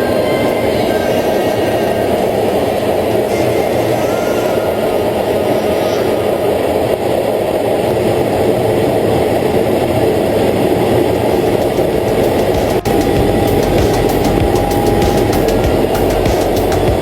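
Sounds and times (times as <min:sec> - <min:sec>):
loud machinery roar: 0:01.9 - 0:17.0.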